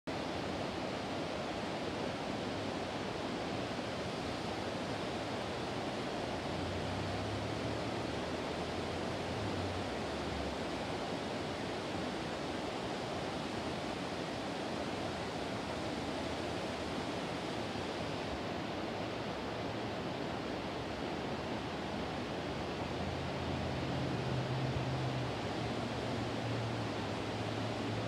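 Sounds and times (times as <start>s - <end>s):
rushing outdoor background noise: 0.1s - 28.0s.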